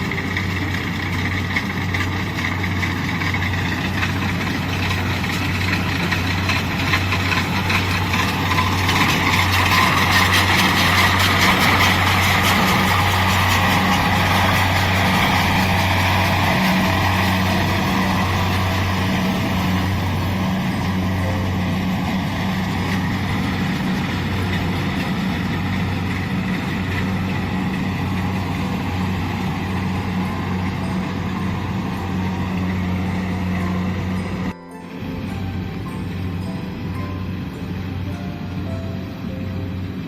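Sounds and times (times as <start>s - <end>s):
diesel engine droning: 0.0s - 40.0s.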